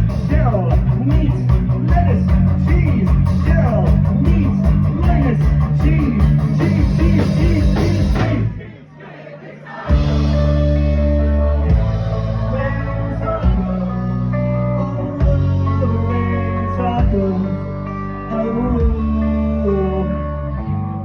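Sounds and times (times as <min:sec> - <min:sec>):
electric guitar: 0:00.0 - 0:08.6, 0:09.9 - 0:21.0
drums: 0:00.0 - 0:08.8, 0:09.7 - 0:20.2
person singing: 0:00.0 - 0:21.0.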